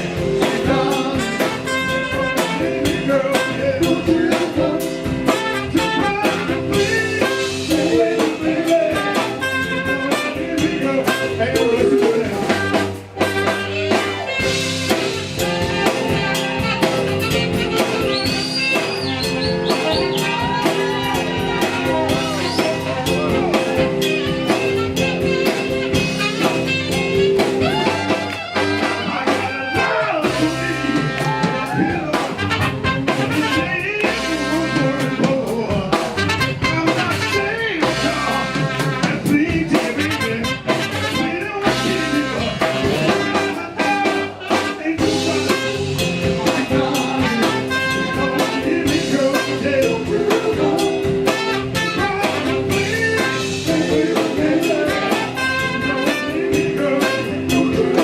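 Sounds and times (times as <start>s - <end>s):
drum kit: 0.0s - 58.0s
horn section: 0.0s - 58.0s
soul band playing live: 0.0s - 58.0s.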